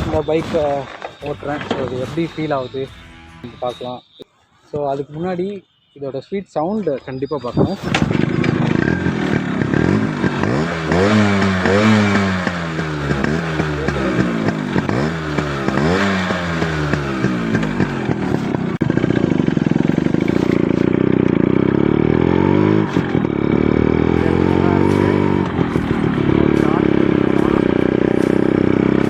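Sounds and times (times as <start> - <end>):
motorcycle engine revving: 0.0 - 4.2, 6.8 - 29.0.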